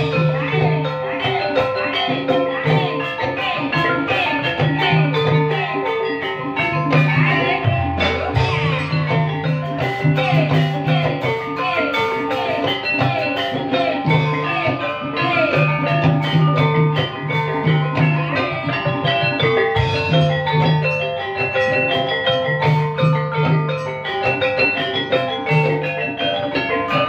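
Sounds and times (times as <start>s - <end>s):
keyed percussion melodic strokes: 0.0s - 27.0s
steady drum pattern: 0.0s - 27.0s.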